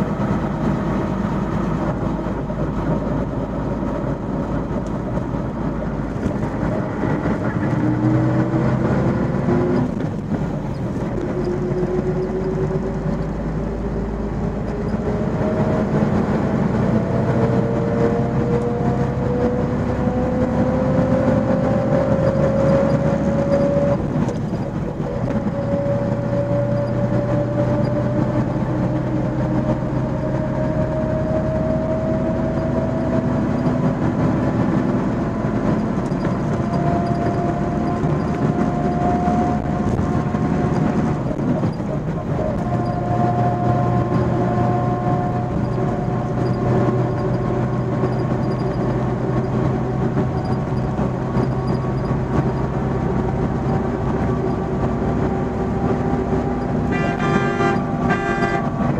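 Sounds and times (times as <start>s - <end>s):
diesel engine: 0.0s - 58.9s
road noise: 0.0s - 58.9s
whine rising in pitch: 0.0s - 58.9s.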